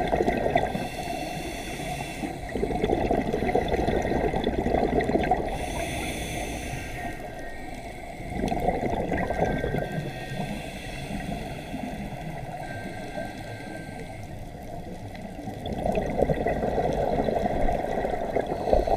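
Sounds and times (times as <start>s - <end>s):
exhaled bubbles gurgling: 0.0s - 13.3s, 14.3s - 18.9s
low underwater rush: 0.0s - 18.9s.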